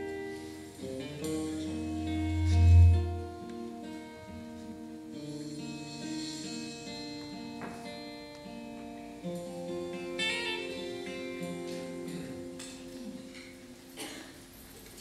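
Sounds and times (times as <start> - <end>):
acoustic guitars strummed: 0.0 - 14.8.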